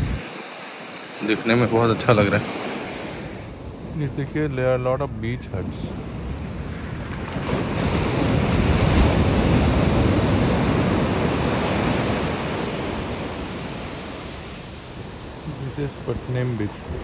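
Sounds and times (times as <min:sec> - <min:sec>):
wave breaking on beach: 0:00.0 - 0:04.5, 0:05.6 - 0:17.0
wind on microphone: 0:00.0 - 0:17.0.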